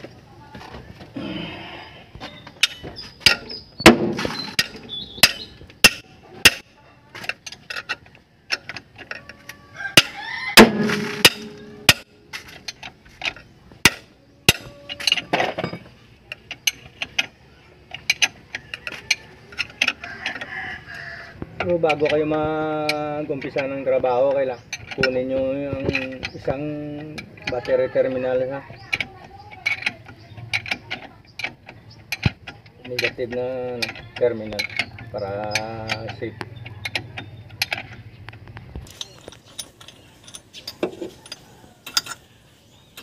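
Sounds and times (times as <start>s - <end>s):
hand tools clinking on metal: 2.3s - 20.6s, 21.6s - 38.1s, 38.9s - 43.0s.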